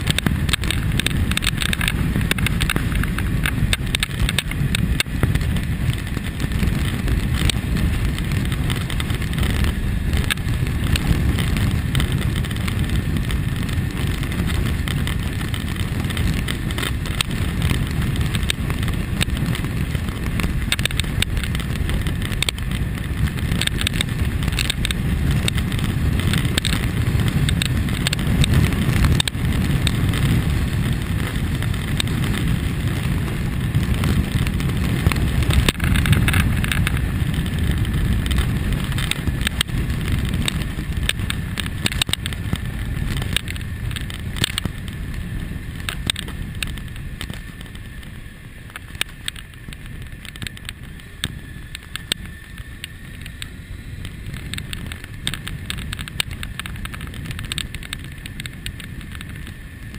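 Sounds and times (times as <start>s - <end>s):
motorcycle engine: 0.0s - 59.9s
road noise: 0.0s - 59.9s
wind buffeting microphone: 0.0s - 59.9s.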